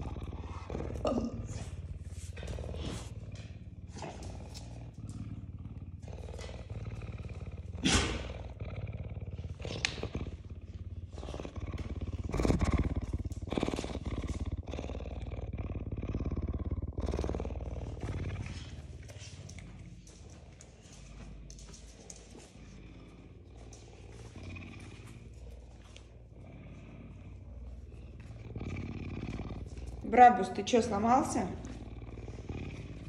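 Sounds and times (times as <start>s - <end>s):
cougar purring: 0.0s - 33.0s.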